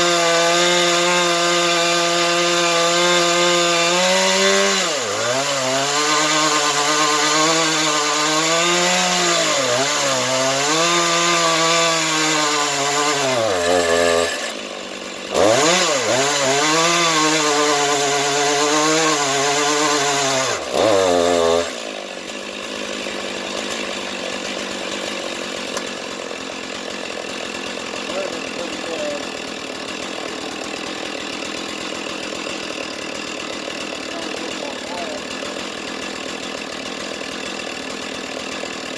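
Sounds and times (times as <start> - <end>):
chainsaw ripping wood: 0.0 - 38.9.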